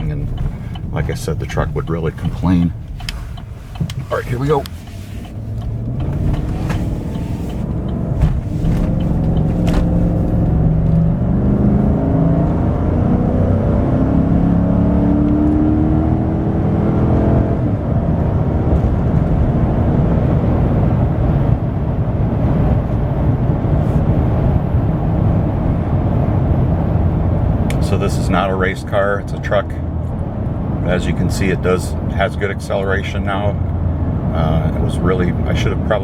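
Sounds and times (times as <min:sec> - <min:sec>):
pickup engine accelerating: 0:00.0 - 0:36.0
road and wind noise: 0:00.0 - 0:36.0.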